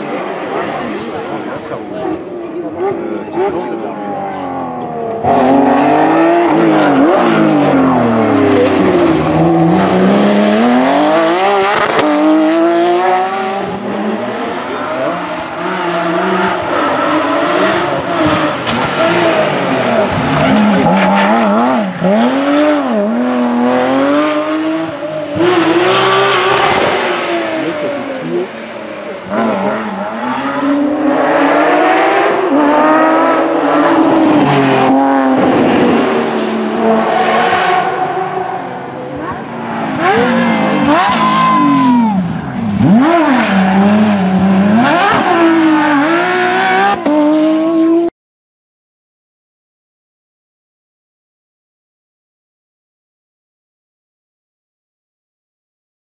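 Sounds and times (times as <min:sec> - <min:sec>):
rally car engines revving: 0:00.0 - 0:48.1.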